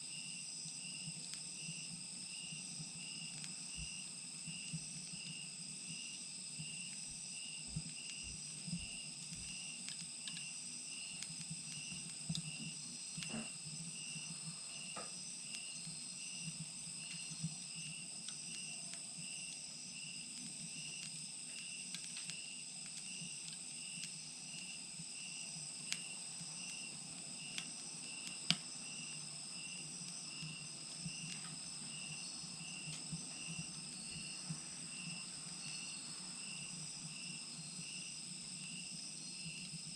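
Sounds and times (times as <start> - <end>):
insects chirping: 0.0 - 39.9
wood fire crackling and popping: 0.9 - 35.9.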